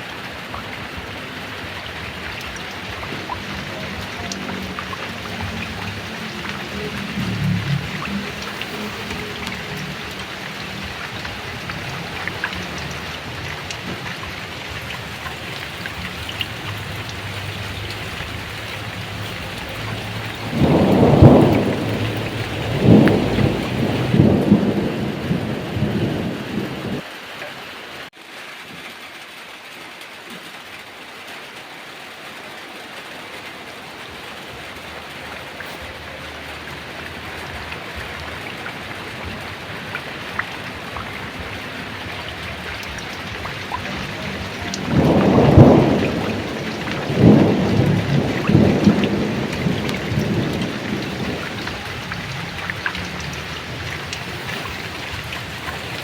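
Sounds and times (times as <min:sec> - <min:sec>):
heavy rain falling: 0:00.0 - 0:56.0
rolling thunderclap: 0:00.3 - 0:27.1, 0:34.6 - 0:56.0.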